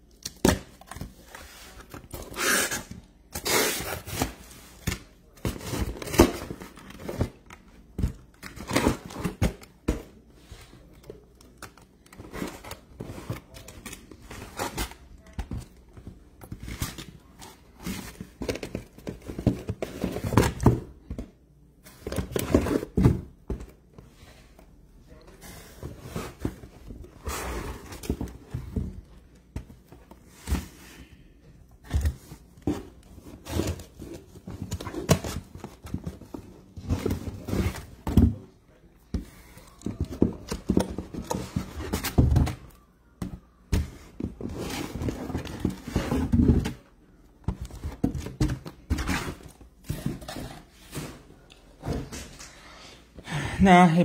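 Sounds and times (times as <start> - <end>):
cardboard boxes thunking and rustling: 3.3 - 10.2, 12.0 - 23.9, 25.4 - 31.0, 31.8 - 38.5, 39.2 - 52.3.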